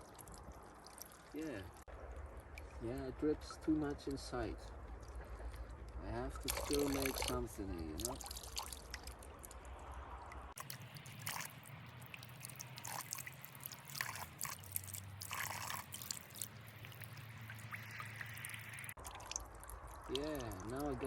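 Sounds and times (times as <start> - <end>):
water drips: 0.0 - 21.0
water trickling over stones: 0.0 - 21.0.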